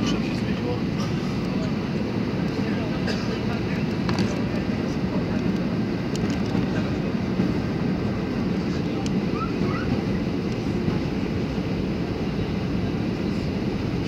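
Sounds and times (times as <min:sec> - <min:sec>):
jet airliner cabin noise: 0:00.0 - 0:14.0.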